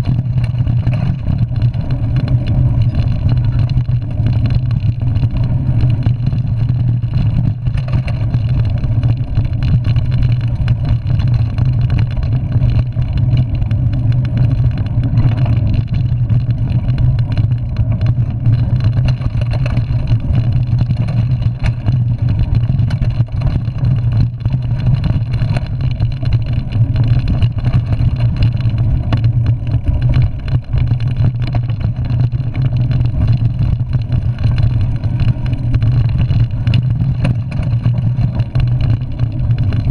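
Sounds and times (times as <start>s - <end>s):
bike knocks and rattles: 0.0s - 39.9s
wind and tyre rumble: 0.0s - 39.9s.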